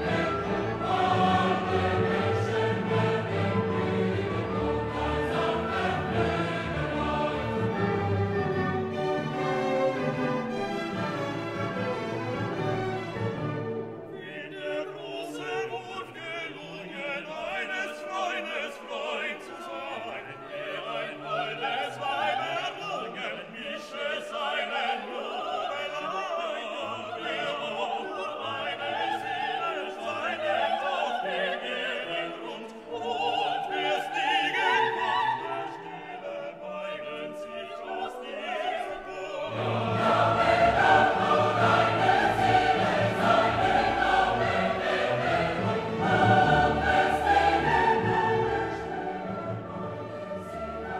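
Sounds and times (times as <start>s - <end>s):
operatic singing: 0.0s - 50.9s
orchestral classical music: 0.0s - 50.9s.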